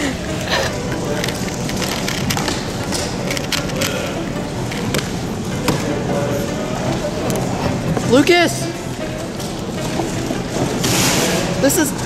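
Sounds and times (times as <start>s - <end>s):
busy room background noise: 0.0s - 12.0s
faint voices: 0.0s - 12.0s.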